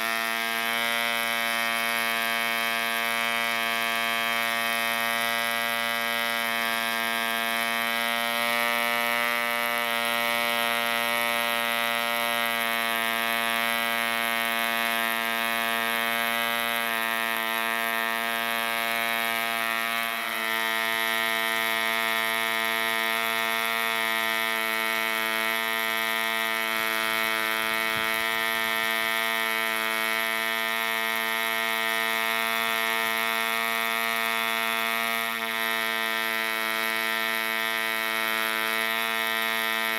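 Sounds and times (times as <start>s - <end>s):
small model engine buzzing: 0.0s - 39.9s.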